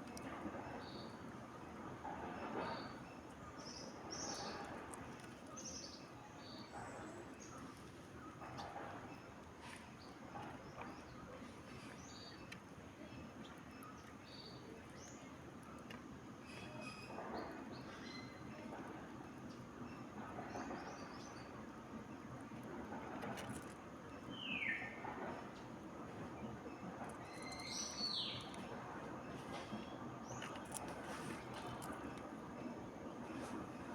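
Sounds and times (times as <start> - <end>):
faint outdoor hiss: 0.0 - 33.9.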